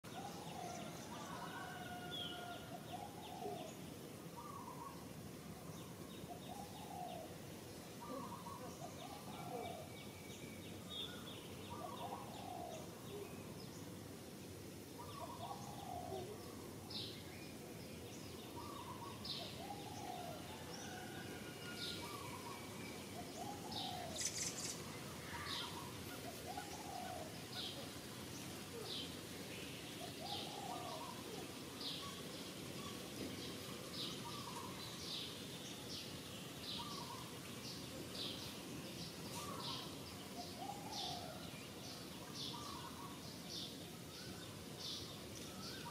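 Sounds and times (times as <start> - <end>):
background hiss: 0.0 - 45.9.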